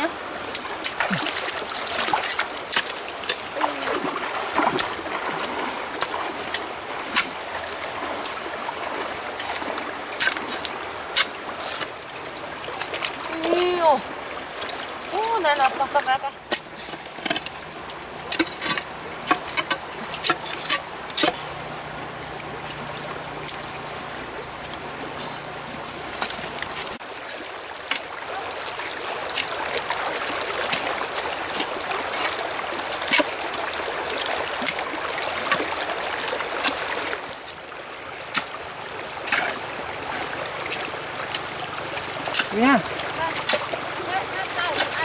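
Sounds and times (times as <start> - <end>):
digging in wet mud and stones: 0.0 - 24.2, 25.2 - 45.0
stream water running: 0.0 - 45.0.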